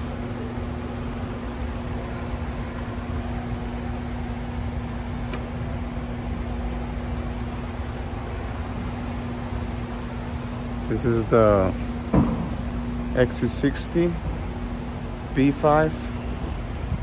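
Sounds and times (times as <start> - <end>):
fan hum: 0.0 - 17.0.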